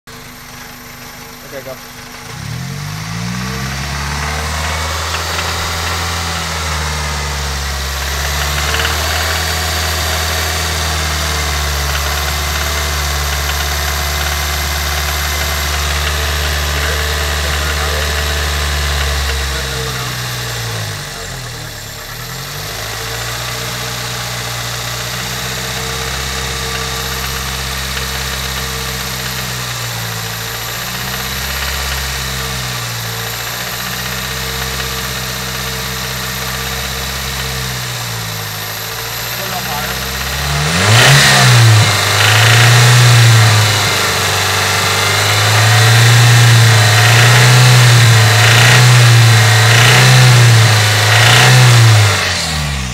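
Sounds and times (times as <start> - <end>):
car engine idling: 0.0 - 52.9
engine ticking: 0.0 - 52.9.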